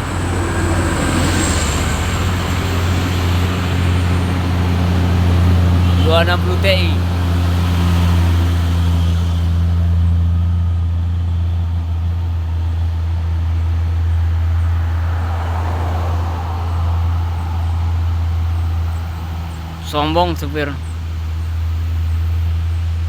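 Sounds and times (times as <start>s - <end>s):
diesel truck engine droning: 0.0s - 23.0s.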